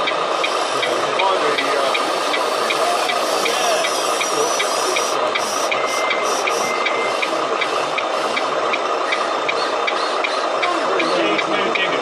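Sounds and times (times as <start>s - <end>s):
crowd background din: 0.0s - 12.0s
high electronic beeps: 1.6s - 11.9s.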